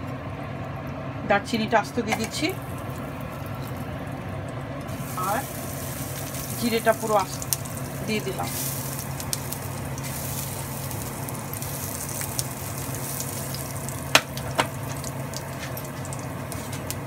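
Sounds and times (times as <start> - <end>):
spices sizzling in oil: 2.1 - 17.0.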